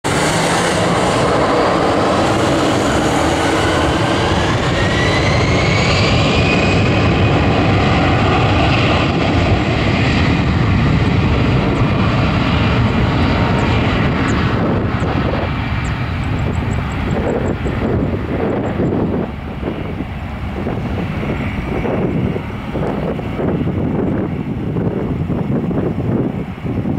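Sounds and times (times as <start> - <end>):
jet engines roaring with rising whine: 0.0 - 26.9.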